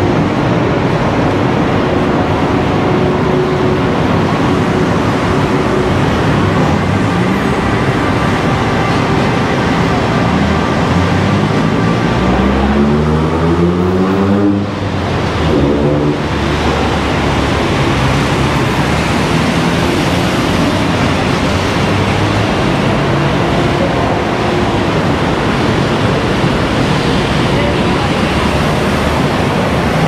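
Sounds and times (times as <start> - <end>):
city road traffic rushing: 0.0 - 30.0.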